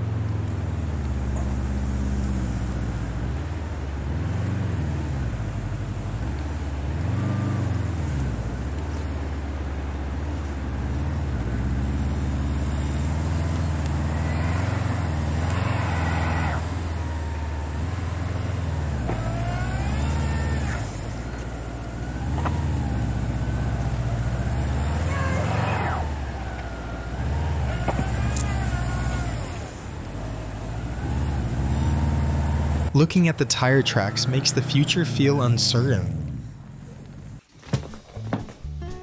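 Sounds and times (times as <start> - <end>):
vehicle engine running: 0.0 - 37.5.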